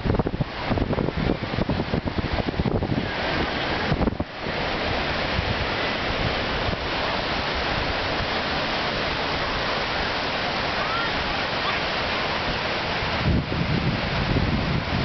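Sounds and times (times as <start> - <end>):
ocean surf breaking on beach: 0.0 - 15.0
wind buffeting microphone: 0.0 - 15.0.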